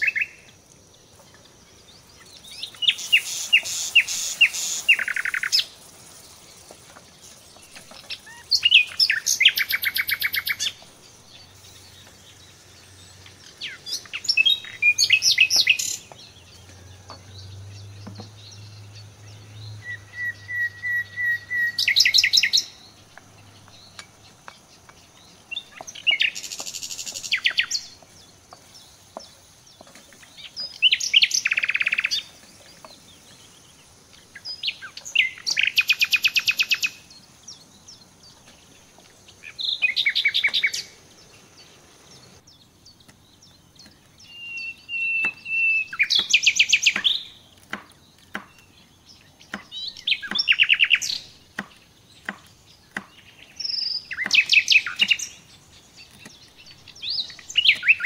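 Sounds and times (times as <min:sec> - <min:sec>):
songbird singing trills: 0:00.0 - 0:58.0.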